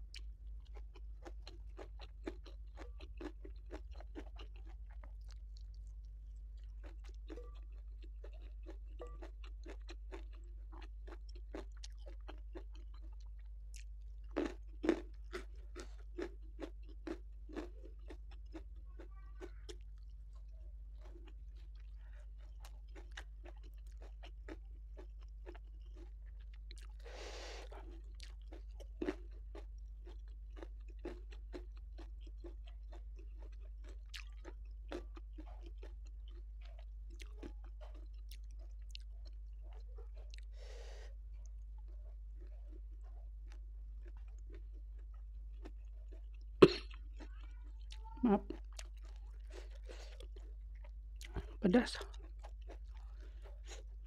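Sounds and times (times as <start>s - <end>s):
mouth chewing with wet crunches: 0.0s - 54.0s.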